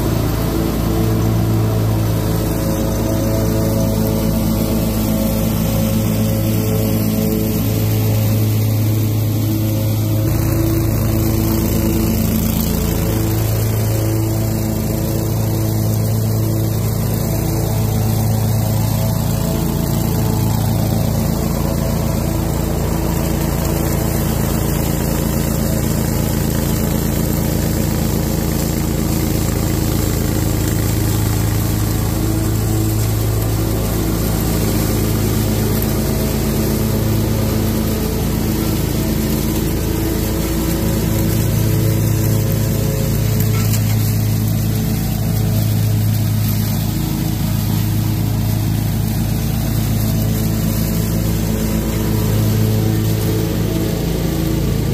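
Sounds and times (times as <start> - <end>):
mower engine running: 0.0 - 54.9.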